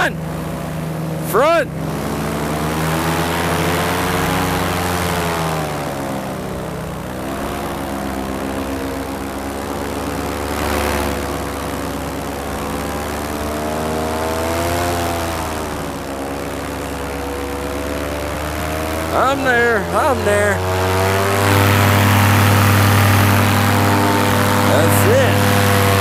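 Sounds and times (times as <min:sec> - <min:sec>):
paramotor engine and propeller: 0:00.0 - 0:26.0.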